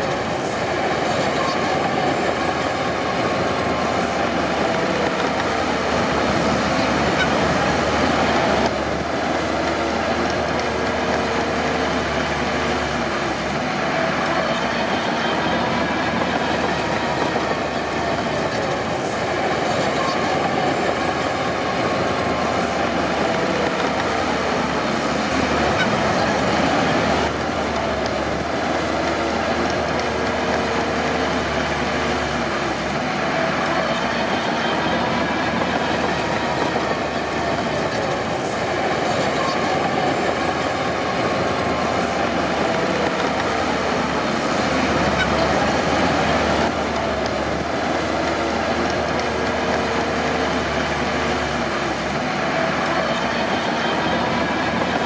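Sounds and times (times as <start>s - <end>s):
bulldozer diesel engine running: 0.0s - 55.0s
steel tracks clattering and squealing: 0.0s - 55.0s.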